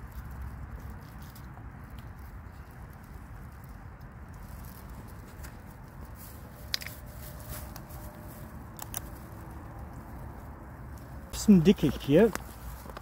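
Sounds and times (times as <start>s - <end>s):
footsteps through undergrowth: 0.0s - 13.0s
twigs snapping: 0.0s - 13.0s.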